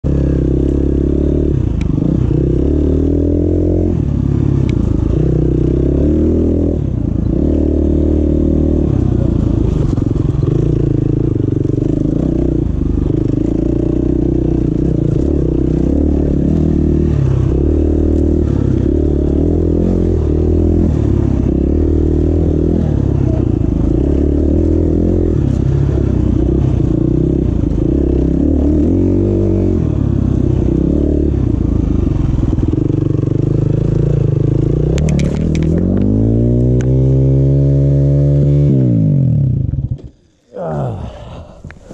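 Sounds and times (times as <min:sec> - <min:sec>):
dirt bike engine revving: 0:00.1 - 0:41.9.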